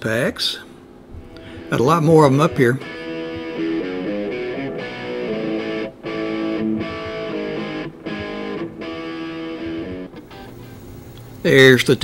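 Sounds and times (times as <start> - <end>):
guitar-led intro music: 1.4 - 11.4.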